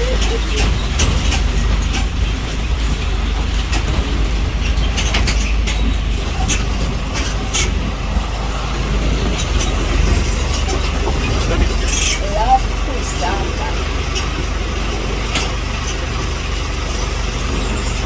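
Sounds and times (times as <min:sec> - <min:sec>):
low engine rumble: 0:00.0 - 0:18.0
rattles and knocks: 0:00.0 - 0:18.0.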